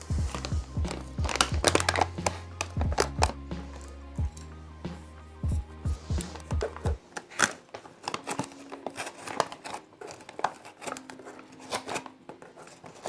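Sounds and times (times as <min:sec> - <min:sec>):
plastic pouch crinkling: 0:00.0 - 0:04.0, 0:06.2 - 0:13.0.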